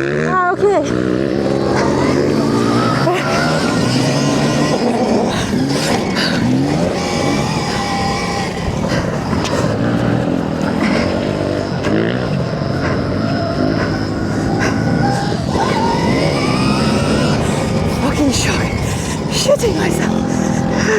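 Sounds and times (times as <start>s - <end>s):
electric motor whine: 0.7s - 20.9s.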